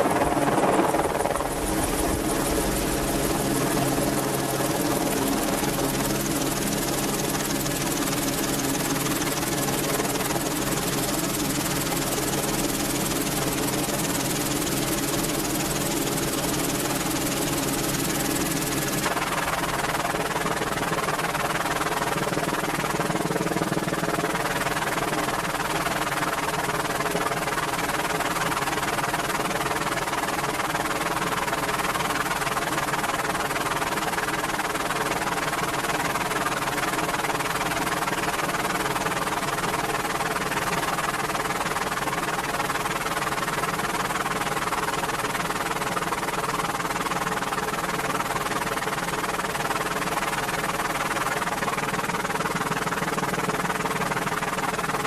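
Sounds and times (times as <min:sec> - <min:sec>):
helicopter turbines and rotor: 0:00.0 - 0:55.0.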